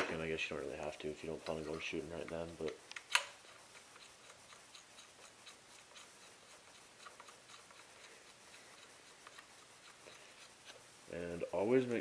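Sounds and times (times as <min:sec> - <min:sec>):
faint ticks and scrapes of threading: 0:00.8 - 0:11.7.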